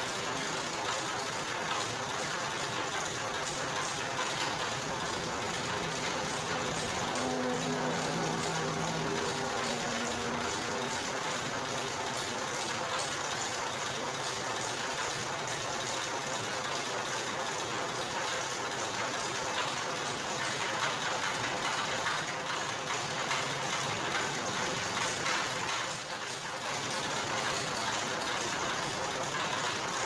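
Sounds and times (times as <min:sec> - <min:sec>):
sugarcane machine rattling and whirring: 0:00.0 - 0:30.0.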